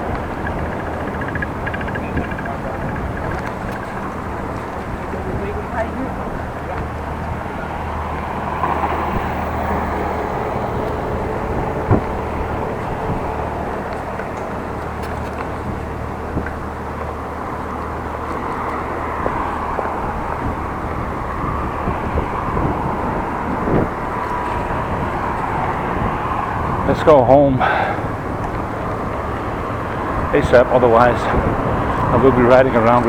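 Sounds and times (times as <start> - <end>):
road and traffic noise: 0.0 - 33.0.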